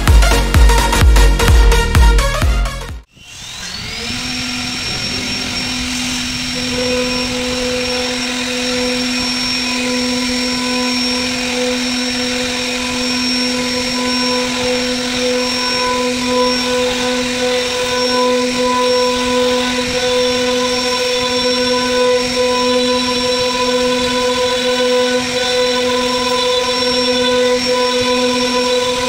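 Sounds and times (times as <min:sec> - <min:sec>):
router spindle whining: 0:02.3 - 0:29.0.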